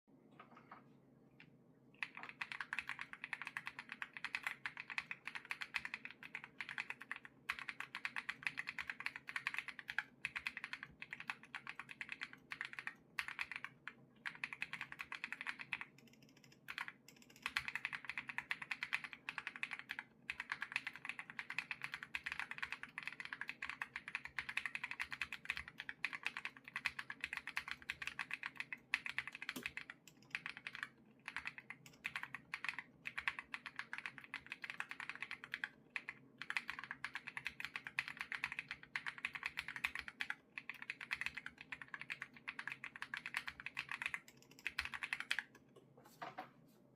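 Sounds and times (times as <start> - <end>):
fast typing on mechanical keyboard: 2.0 - 45.6.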